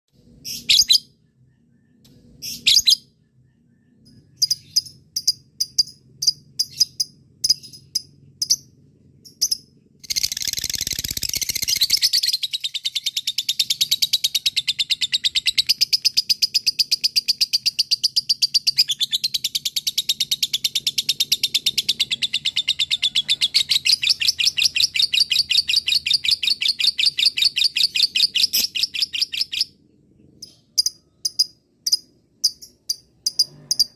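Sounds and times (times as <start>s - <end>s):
lovebird chirping and trilling: 0.2s - 33.9s.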